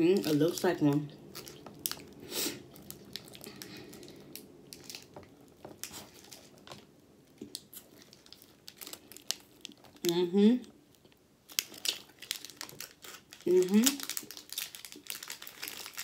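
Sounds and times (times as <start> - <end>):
foil wrapper crinkling: 0.0 - 6.9, 7.5 - 10.2, 11.0 - 16.0.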